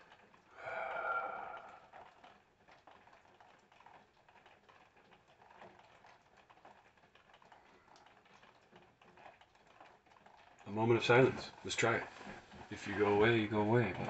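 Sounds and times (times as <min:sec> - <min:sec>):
faint light ticks and crackles: 0:00.0 - 0:00.6, 0:01.2 - 0:14.0.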